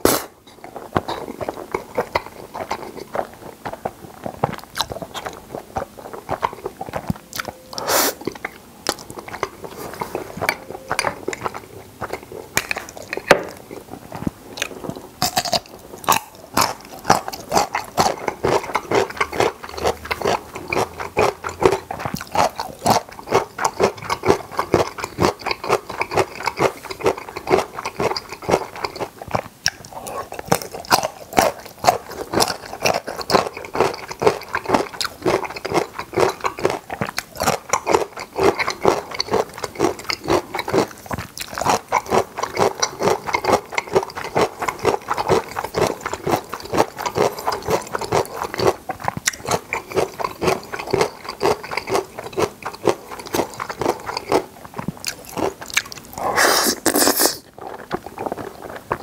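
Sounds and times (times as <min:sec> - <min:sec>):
wet chewing and lip smacking: 0:00.4 - 0:59.0.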